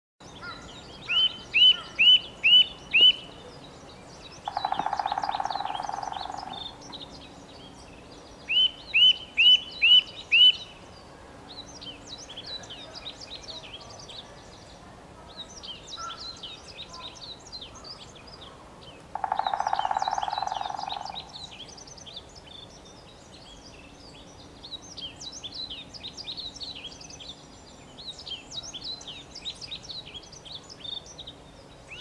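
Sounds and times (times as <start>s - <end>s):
bird singing ringing notes: 0.2s - 14.7s, 19.0s - 32.0s
low buzzing bird trill: 0.2s - 14.8s, 15.5s - 32.0s
chorus of high bird chirps: 0.2s - 32.0s.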